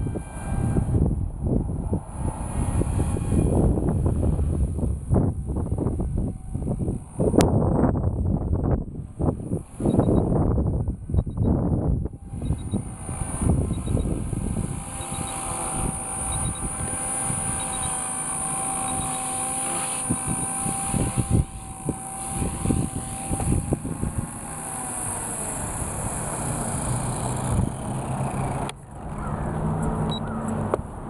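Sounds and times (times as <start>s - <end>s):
rc helicopter whine: 0.0s - 31.0s.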